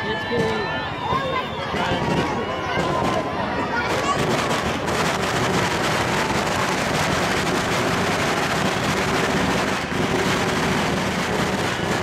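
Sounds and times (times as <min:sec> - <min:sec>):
large crowd hubbub: 0:00.0 - 0:12.0.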